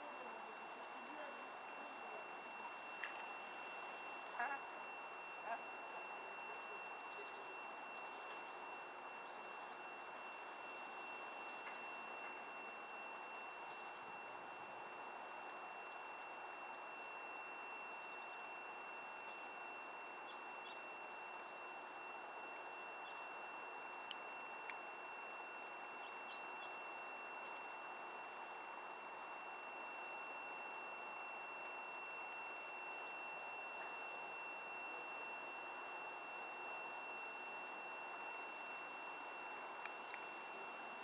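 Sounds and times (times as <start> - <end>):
thin steady high whine: 0.0 - 41.0.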